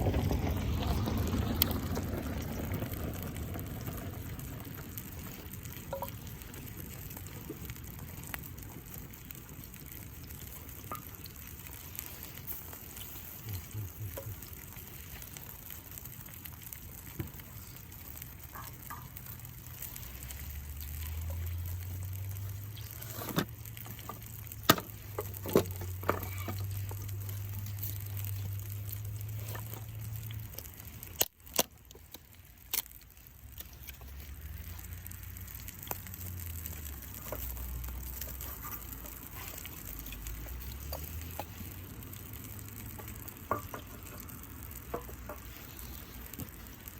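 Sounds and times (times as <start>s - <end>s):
meat sizzling in a skillet: 0.0s - 46.9s.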